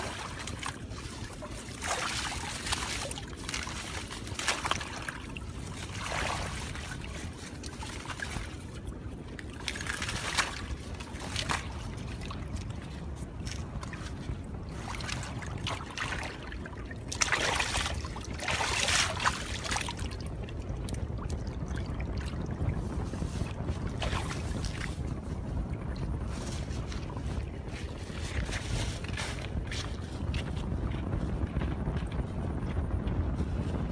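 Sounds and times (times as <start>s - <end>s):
water splashing and trickling: 0.0s - 32.2s
steady low rumble: 0.0s - 33.9s.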